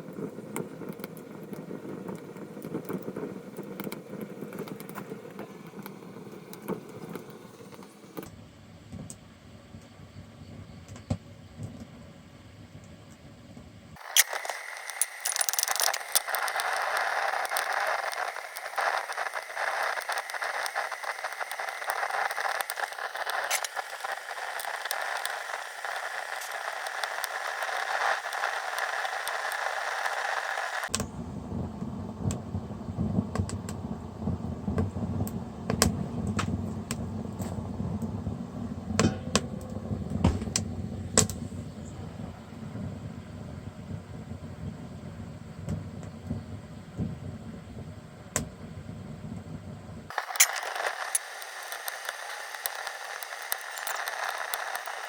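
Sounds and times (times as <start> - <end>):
wood fire crackling: 0.0 - 8.3, 14.0 - 55.0
low fire rumble: 0.0 - 8.4, 13.4 - 55.0.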